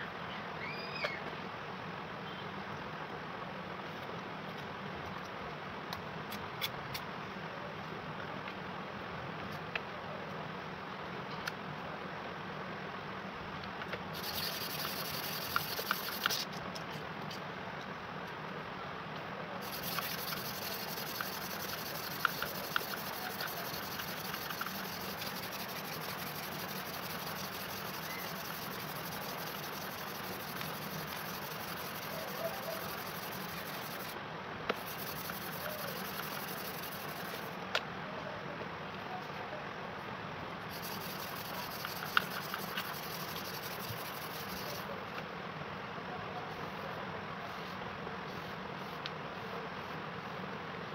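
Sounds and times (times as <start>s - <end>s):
steady background noise: 0.0s - 50.9s.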